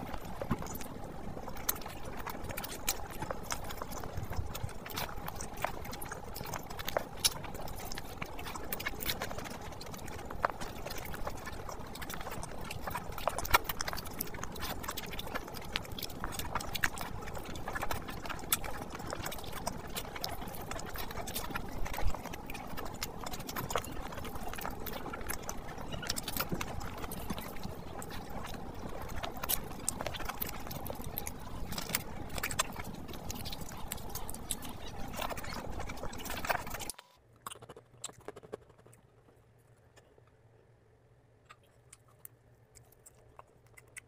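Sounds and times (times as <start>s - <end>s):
man chewing with mouth smacking: 0.0s - 40.7s, 41.3s - 44.0s.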